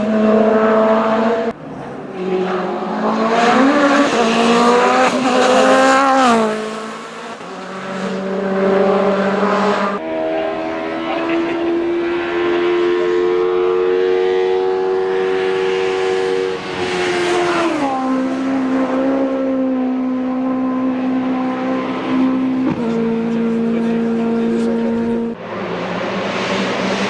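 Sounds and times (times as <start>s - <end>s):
racing car engine high revs: 0.0s - 27.0s.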